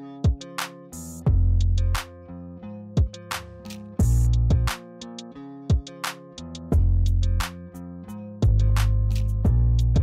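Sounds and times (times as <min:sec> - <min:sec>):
music with drums and deep bass: 0:00.2 - 0:02.2, 0:03.0 - 0:10.0.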